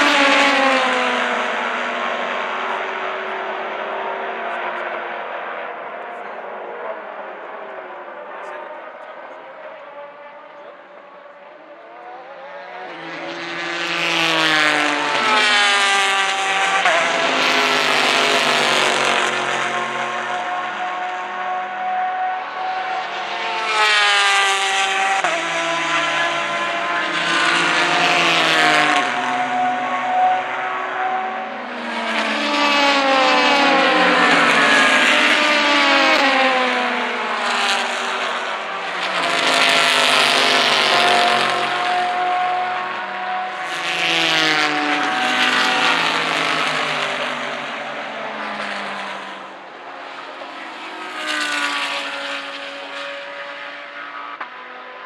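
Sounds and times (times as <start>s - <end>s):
race cars passing at full throttle: 0.0s - 55.0s.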